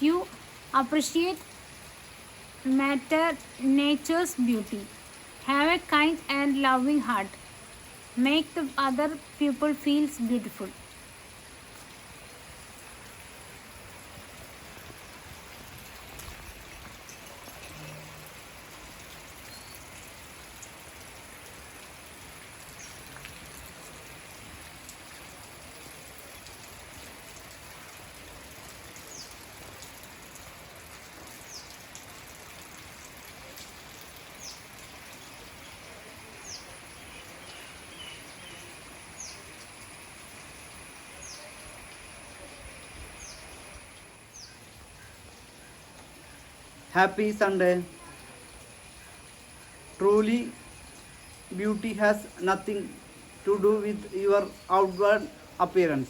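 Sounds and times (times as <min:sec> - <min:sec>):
steady water hiss: 0:00.0 - 0:56.0.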